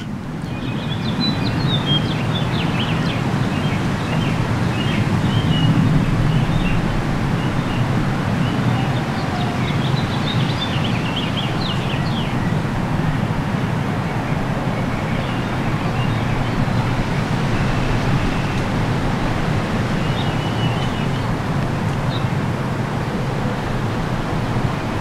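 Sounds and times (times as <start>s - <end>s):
wind rumble: 0.0s - 25.0s.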